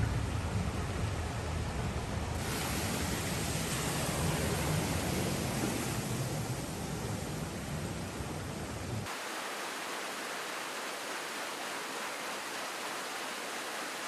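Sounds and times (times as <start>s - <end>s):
floodwater rushing with rumble: 0.0s - 14.0s
flowing water rush: 0.0s - 14.0s.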